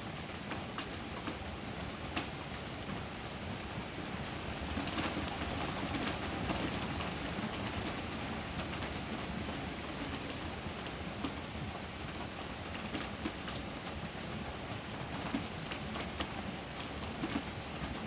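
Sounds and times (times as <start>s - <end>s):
heavy rain on a roof: 0.0s - 18.0s.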